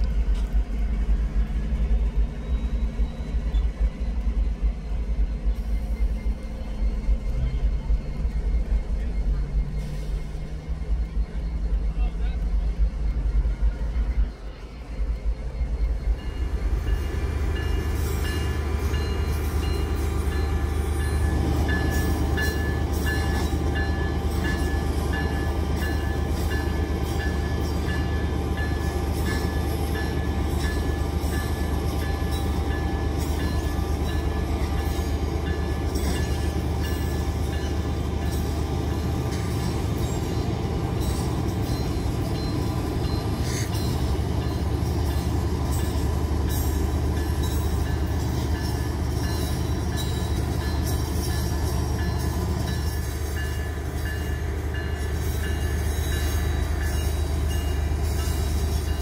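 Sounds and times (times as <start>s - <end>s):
diesel locomotive engine rumble: 0.0s - 59.0s.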